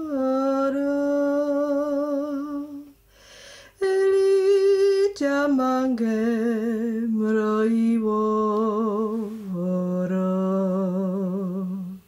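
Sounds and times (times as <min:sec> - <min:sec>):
woman singing unaccompanied: 0:00.0 - 0:03.0, 0:03.7 - 0:12.0.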